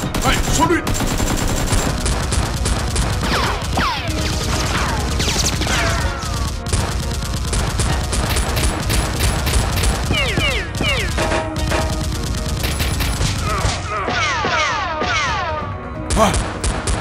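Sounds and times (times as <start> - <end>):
rapid gunfire sound effects: 0.0 - 14.6, 16.1 - 17.0.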